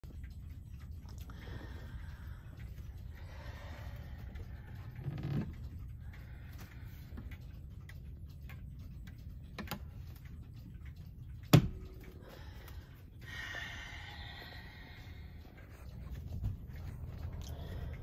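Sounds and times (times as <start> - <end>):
pendulum clock ticking: 0.0 - 18.0.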